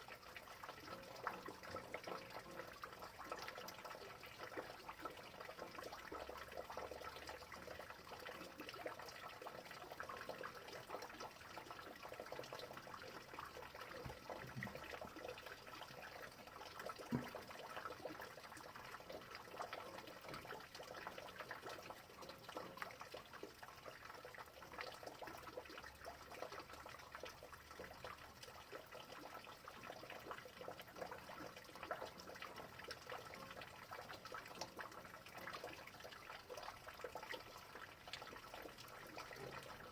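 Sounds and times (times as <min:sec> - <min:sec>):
rain falling faintly: 0:00.0 - 0:39.9.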